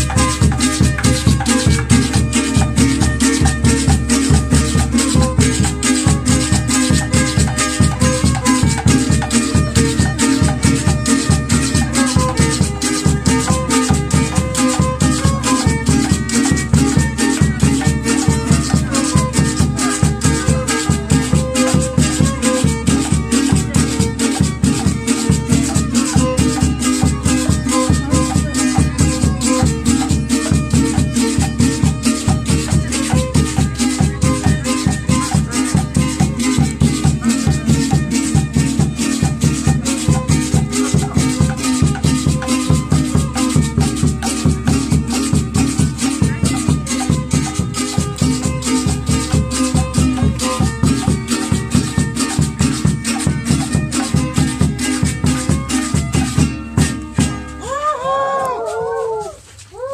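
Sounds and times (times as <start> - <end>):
live dance music with fast beat: 0.0 - 56.9.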